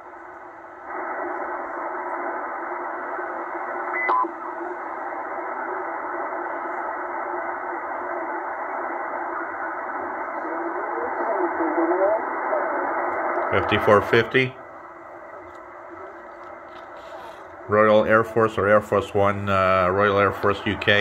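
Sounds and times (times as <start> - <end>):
radio band noise hiss: 0.0 - 21.0.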